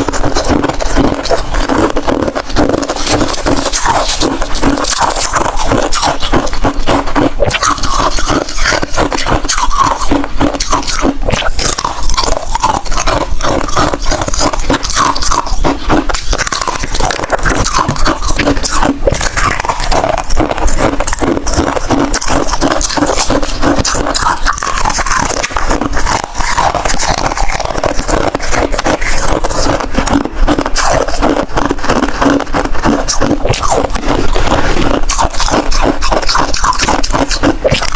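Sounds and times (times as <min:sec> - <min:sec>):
crunching and chewing ice: 0:00.0 - 0:37.9.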